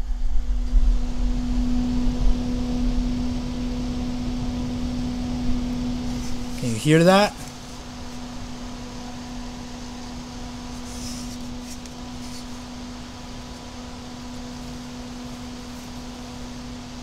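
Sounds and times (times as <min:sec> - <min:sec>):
computer fan spinning: 0:00.0 - 0:17.0
low hum: 0:00.0 - 0:17.0.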